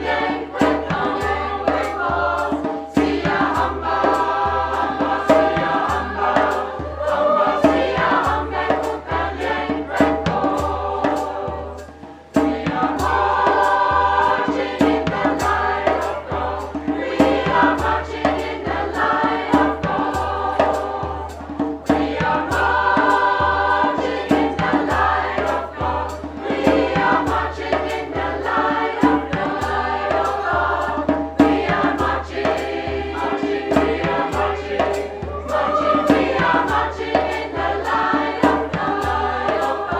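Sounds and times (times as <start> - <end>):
mixed choir singing in harmony: 0.0 - 39.9.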